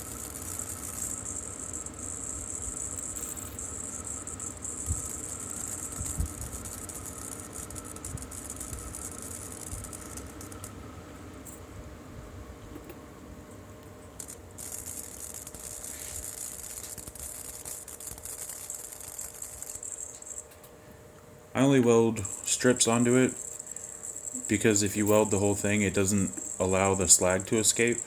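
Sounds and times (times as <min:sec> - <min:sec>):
wire welder crackling sizzle: 0:00.0 - 0:11.6, 0:13.8 - 0:20.7, 0:21.8 - 0:28.0.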